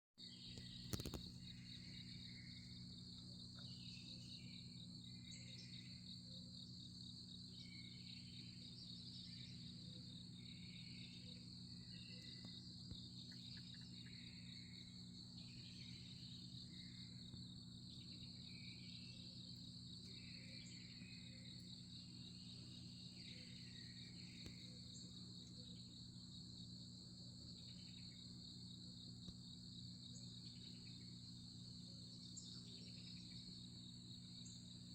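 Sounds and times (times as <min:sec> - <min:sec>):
crickets trilling: 0:00.2 - 0:34.9
low steady hum: 0:00.2 - 0:34.9.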